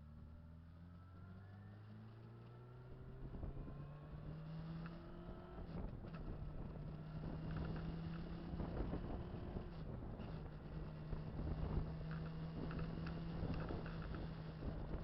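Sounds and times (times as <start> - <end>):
motorcycle engine accelerating: 0.3 - 15.0.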